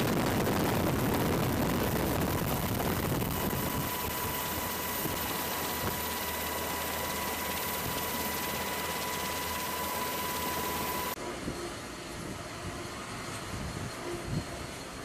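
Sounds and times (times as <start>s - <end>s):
helicopter cabin noise: 0.0s - 15.0s
high steady whine: 0.0s - 15.0s.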